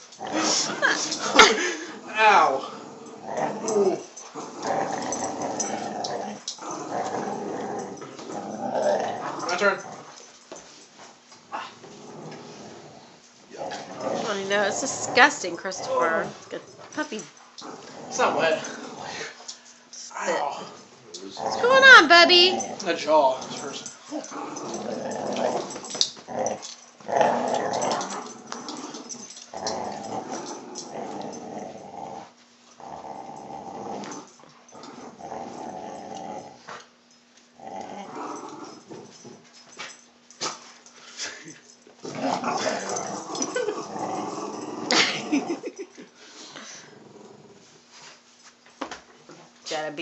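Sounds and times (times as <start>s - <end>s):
dogs growling in play: 0.0s - 10.6s, 11.4s - 48.2s.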